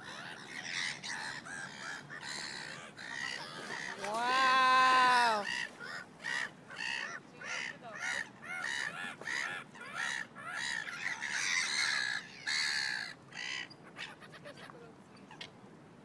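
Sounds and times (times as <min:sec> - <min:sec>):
bird cawing: 0:00.0 - 0:14.4.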